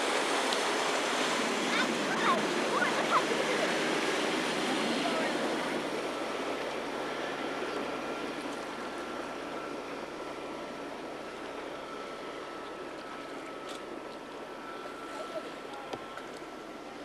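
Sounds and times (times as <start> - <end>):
boat engine running: 0.0 - 17.0
rush of wake water: 0.0 - 17.0
wind: 0.0 - 17.0.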